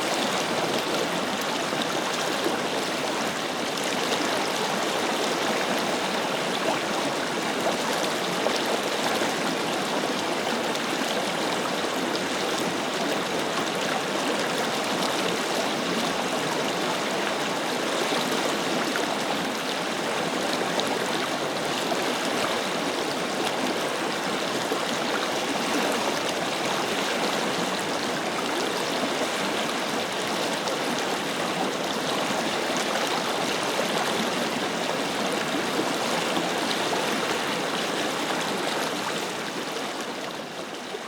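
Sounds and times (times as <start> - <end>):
river flowing: 0.0 - 41.0.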